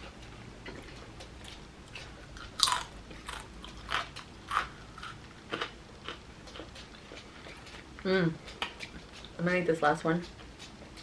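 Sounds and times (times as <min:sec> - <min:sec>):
dog chewing and crunching food: 0:00.0 - 0:11.0.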